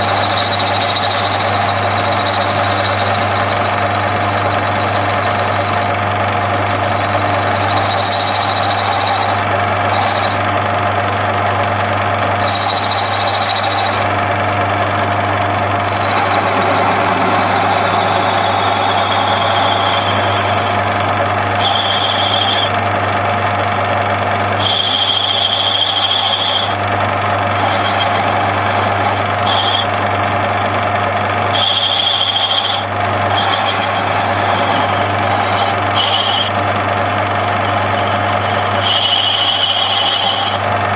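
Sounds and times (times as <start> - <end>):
cutting tool squealing: 0.0 - 11.2, 11.8 - 40.9
lathe motor hum: 0.0 - 40.9.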